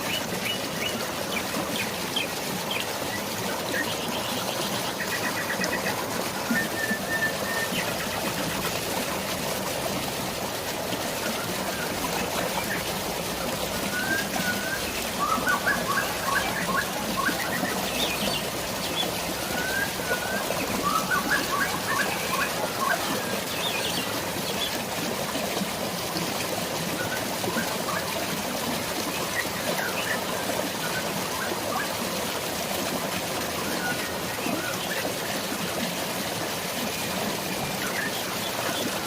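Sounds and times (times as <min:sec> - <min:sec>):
flowing water rushing: 0:00.0 - 0:39.0.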